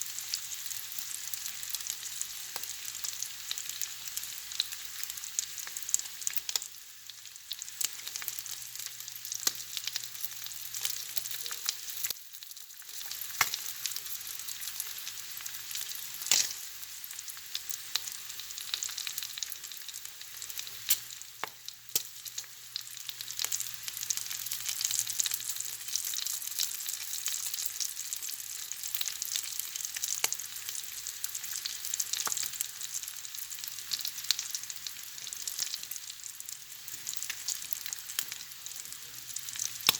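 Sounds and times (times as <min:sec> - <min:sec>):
bacon sizzling: 0:00.0 - 0:39.9.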